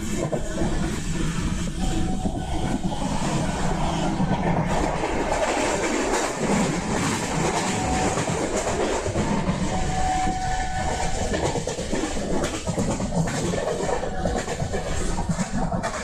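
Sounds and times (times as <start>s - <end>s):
passenger train rumbling: 0.0s - 16.0s
wheels clattering over rails: 0.0s - 16.0s.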